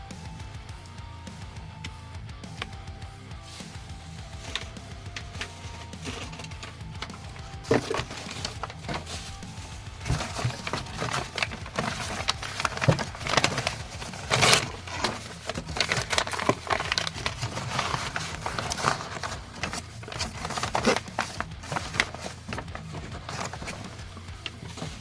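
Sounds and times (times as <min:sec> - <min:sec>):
crackles and clicks: 0:03.4 - 0:25.0
loud crunch: 0:03.4 - 0:25.0
packing material crinkling: 0:03.4 - 0:25.0.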